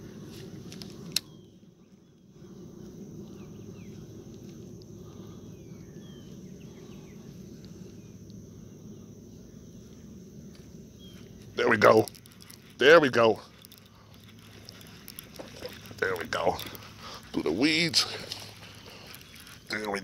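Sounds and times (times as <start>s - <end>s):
faint insect drone: 0.0s - 20.0s
low background rumble: 0.0s - 20.0s
small birds chirping: 1.0s - 20.0s.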